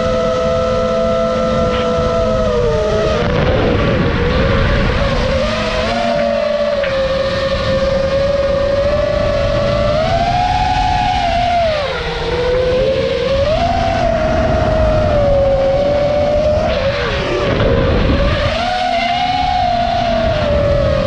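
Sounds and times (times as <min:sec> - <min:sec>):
quadcopter motors whining: 0:00.0 - 0:21.0
wind rumble on microphone: 0:00.0 - 0:21.0.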